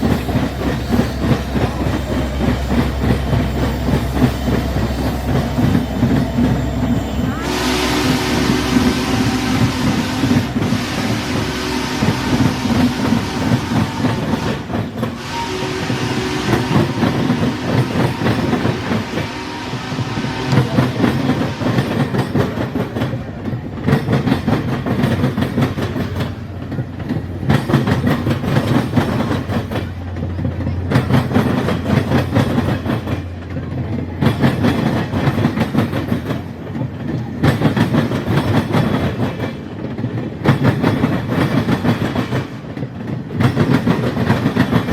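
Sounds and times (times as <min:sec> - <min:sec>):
train wheels clicking over rail joints: 0:00.0 - 0:44.9.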